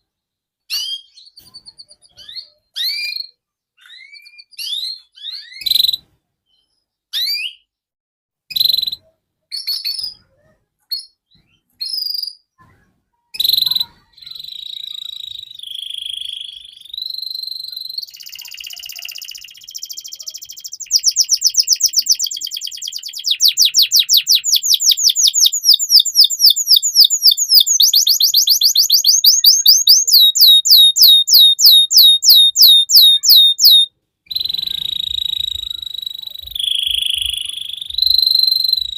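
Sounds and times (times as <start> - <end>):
canary singing: 0.8 - 7.7, 13.4 - 38.9.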